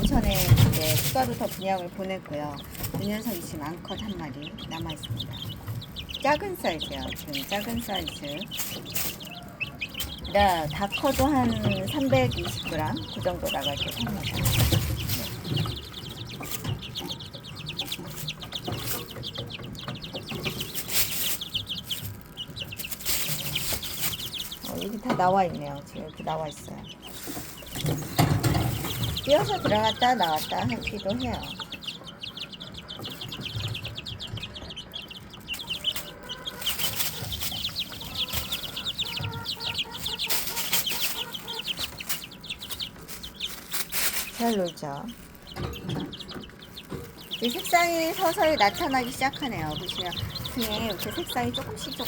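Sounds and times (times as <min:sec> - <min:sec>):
chicks peeping: 0:00.0 - 0:52.0
rustles and taps of scrambling: 0:00.0 - 0:52.0.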